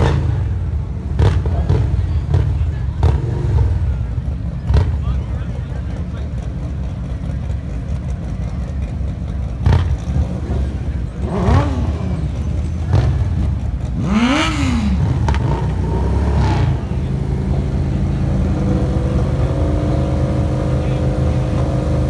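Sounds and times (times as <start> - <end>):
motorcycle engines idling: 0.0 - 22.0
motorcycle engines revving: 0.0 - 22.0.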